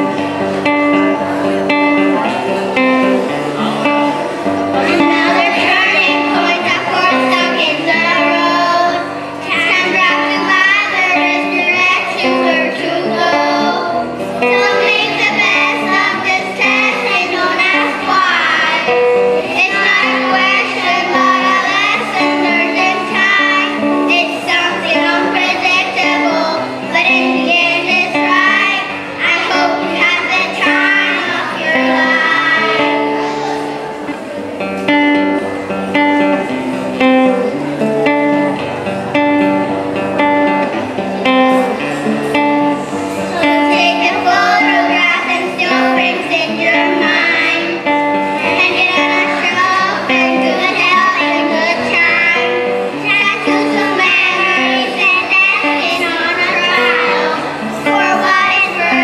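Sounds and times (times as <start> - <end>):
children singing: 0.0 - 34.2, 40.4 - 59.0
instrumental accompaniment: 0.0 - 59.0.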